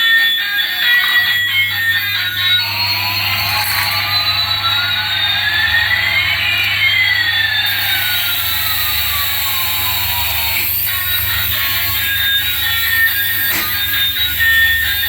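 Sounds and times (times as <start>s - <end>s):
rising and falling whines: 0.7s - 15.0s
electronic jet engine hiss: 2.4s - 15.0s.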